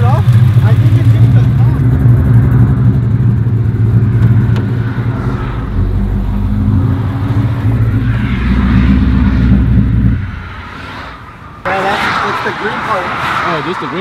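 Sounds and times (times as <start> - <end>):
car engine idling: 0.0 - 13.1.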